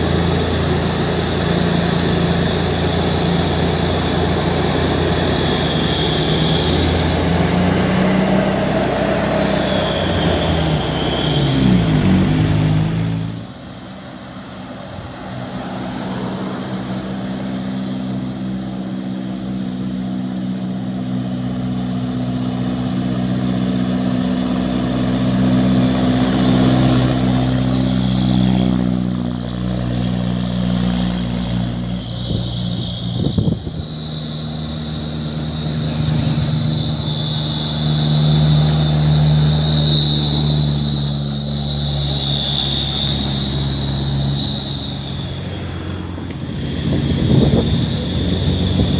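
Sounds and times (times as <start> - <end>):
truck diesel engine under load: 0.0 - 48.9.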